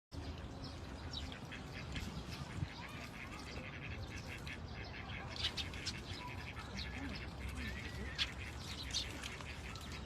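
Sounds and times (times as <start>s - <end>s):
birds calling: 0.2s - 10.0s.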